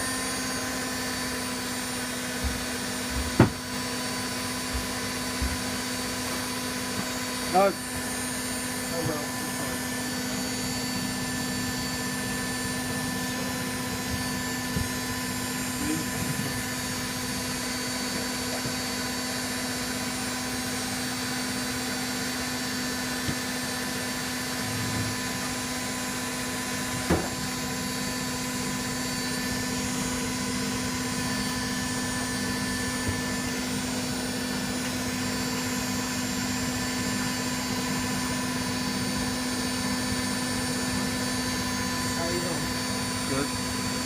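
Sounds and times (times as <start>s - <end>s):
washing machine motor whine: 0.0s - 44.0s.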